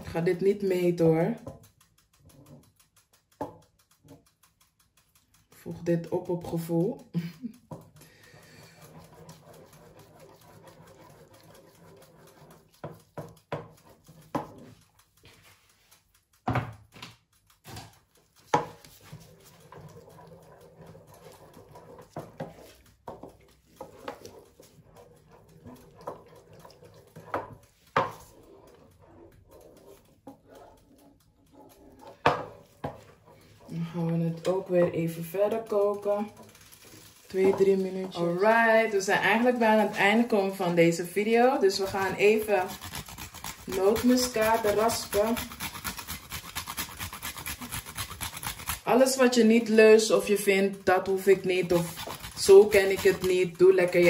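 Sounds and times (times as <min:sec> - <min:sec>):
wooden spatula stirring porridge: 0:00.0 - 0:54.0.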